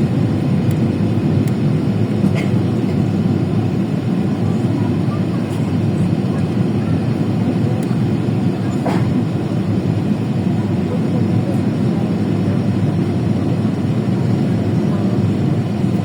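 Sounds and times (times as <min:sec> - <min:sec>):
airliner cabin roar: 0:00.0 - 0:16.0.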